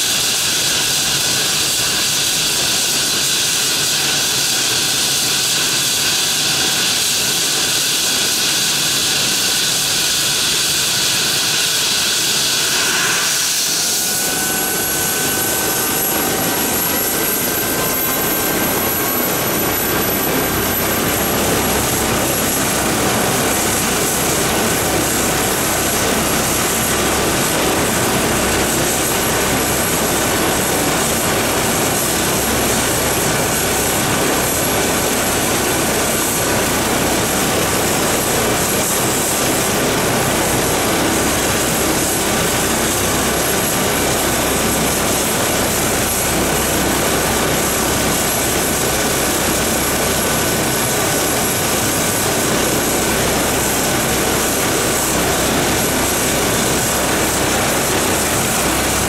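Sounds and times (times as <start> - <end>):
helicopter rotor rushing: 0.0 - 59.0
high turbine whine: 0.0 - 59.0.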